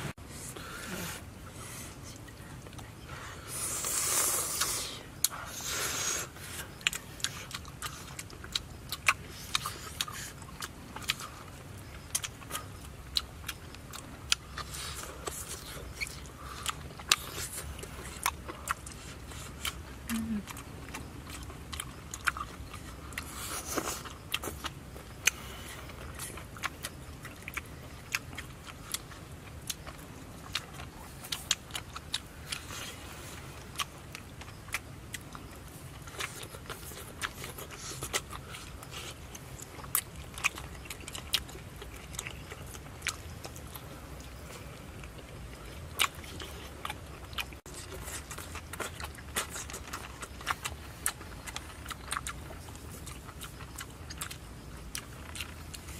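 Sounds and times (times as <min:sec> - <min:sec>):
chewing crunchy meat: 0:00.0 - 0:55.9
low steady hum: 0:00.0 - 0:55.9.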